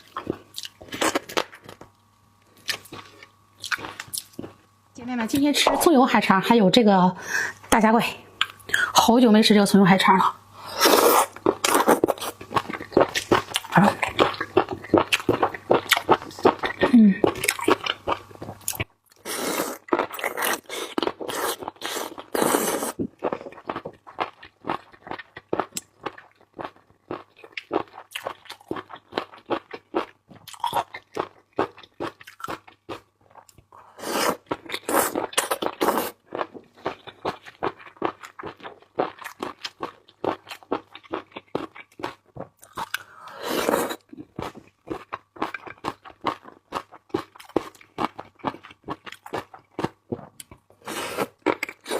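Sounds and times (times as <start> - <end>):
person chewing crunchy food: 0.0 - 4.7, 10.6 - 51.9.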